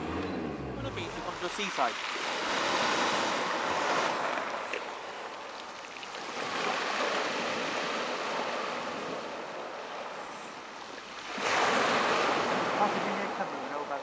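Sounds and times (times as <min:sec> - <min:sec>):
sea waves breaking on shore: 0:00.0 - 0:14.0.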